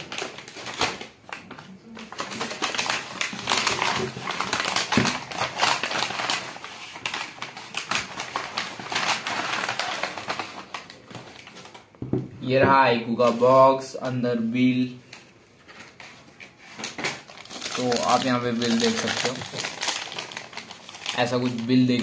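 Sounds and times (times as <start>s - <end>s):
paper tearing and crinkling: 0.0s - 1.4s, 2.0s - 11.8s, 15.7s - 22.0s.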